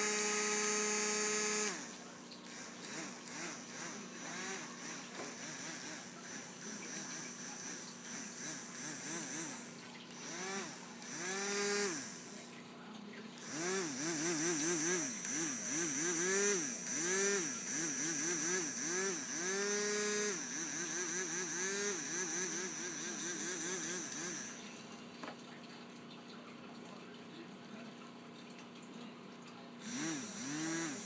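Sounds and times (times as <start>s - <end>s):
small motor humming: 0.0s - 25.4s, 29.8s - 31.0s.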